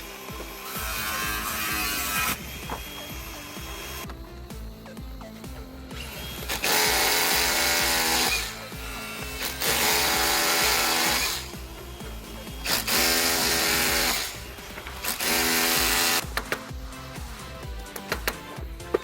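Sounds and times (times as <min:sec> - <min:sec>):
background music: 0:00.0 - 0:19.0
electric power tool motor whine: 0:00.0 - 0:19.0.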